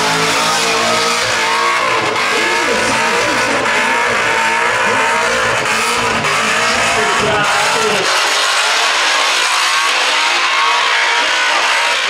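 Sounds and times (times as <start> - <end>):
car engine revving hard: 0.0 - 12.0
tyres spinning and squealing: 0.0 - 12.0.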